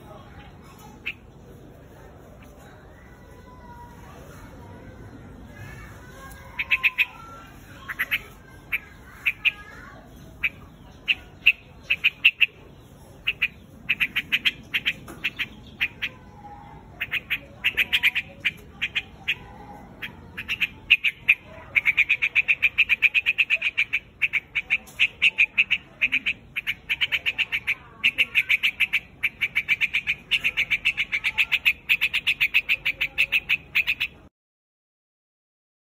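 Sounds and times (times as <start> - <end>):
bird chattering flock call: 5.3 - 34.3.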